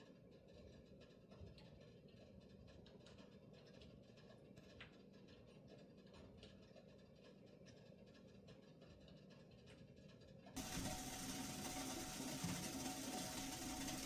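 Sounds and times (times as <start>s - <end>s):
soft scratches and ticks: 0.0s - 14.0s.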